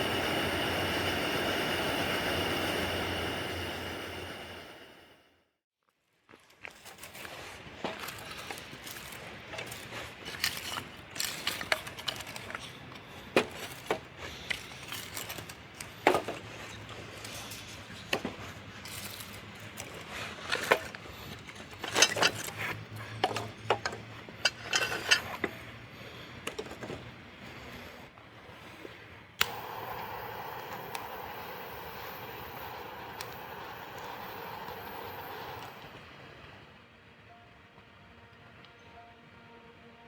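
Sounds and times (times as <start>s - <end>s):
faint background hum: 7.0s - 39.6s.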